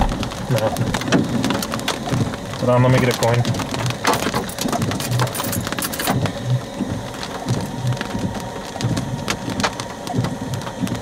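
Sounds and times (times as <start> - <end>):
hailstones striking a vehicle: 0.0 - 11.0
rain falling: 0.0 - 11.0.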